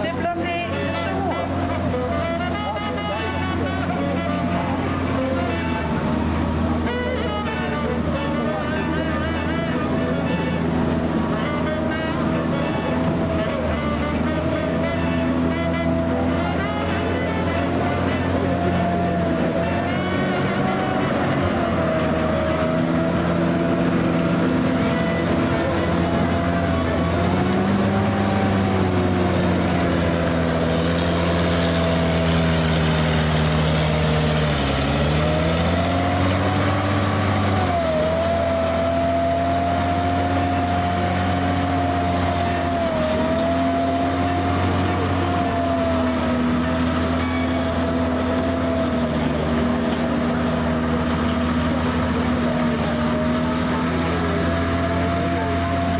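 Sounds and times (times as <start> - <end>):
tank engine running: 0.0 - 55.9.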